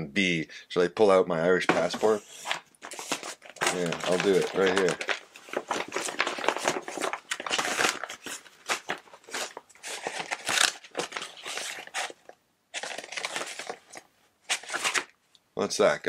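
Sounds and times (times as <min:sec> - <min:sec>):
hands rummaging through belongings: 0:01.7 - 0:15.1.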